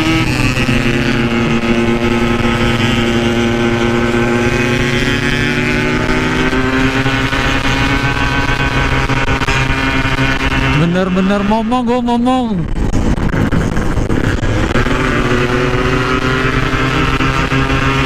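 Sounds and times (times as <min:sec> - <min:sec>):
two-stroke motorcycle engine running: 0:00.0 - 0:18.0.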